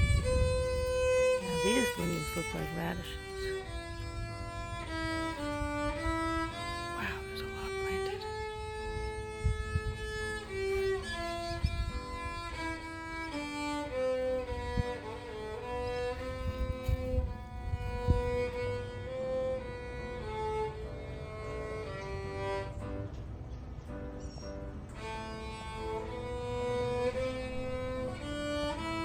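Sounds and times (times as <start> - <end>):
bowed string slow melody: 0.0 - 23.2, 24.3 - 29.0.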